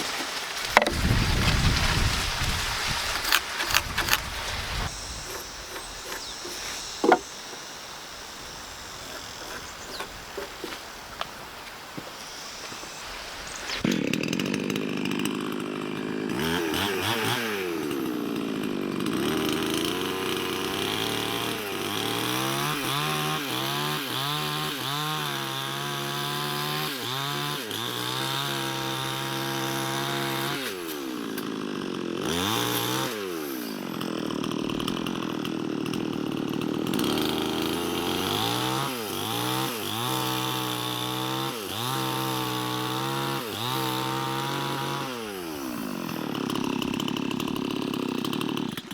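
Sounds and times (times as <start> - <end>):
chainsaw revving cutting wood: 0.0 - 48.9.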